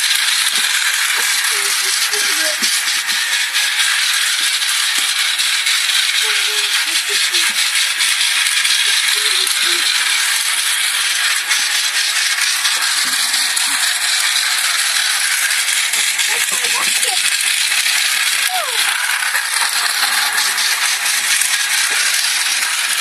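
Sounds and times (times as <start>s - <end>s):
train rattling and clattering: 0.0s - 23.0s.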